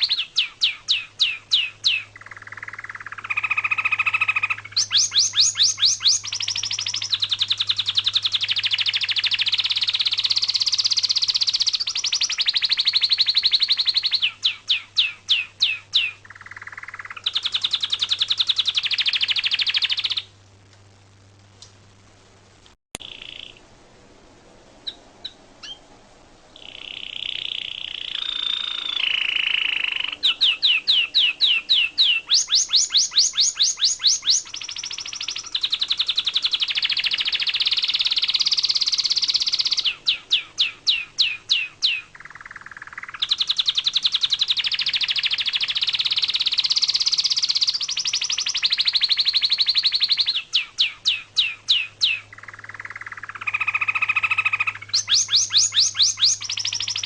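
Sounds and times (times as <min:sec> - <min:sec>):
songbird singing with trills: 0:00.0 - 0:20.4, 0:23.0 - 0:23.6, 0:24.8 - 0:25.9, 0:26.5 - 0:57.0.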